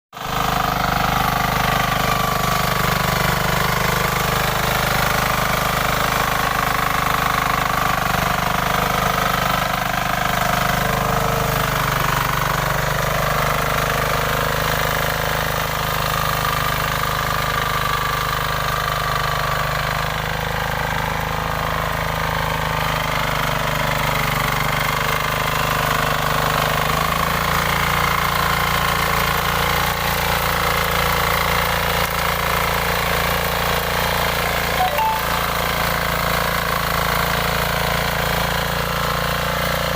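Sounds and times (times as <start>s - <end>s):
small engine running: 0.2s - 39.9s.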